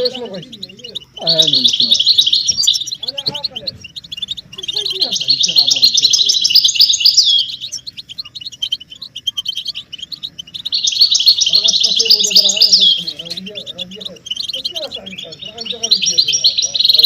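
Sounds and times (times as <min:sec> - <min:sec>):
goldfinches twittering: 0:00.0 - 0:17.0.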